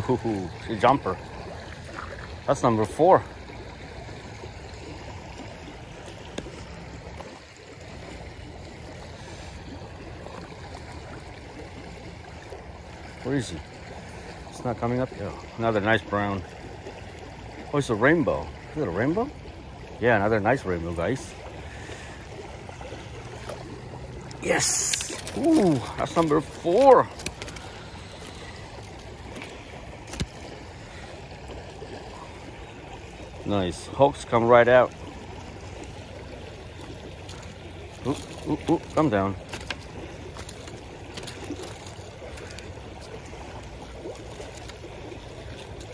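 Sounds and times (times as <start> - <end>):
creek flowing over rocks: 0.0 - 45.9.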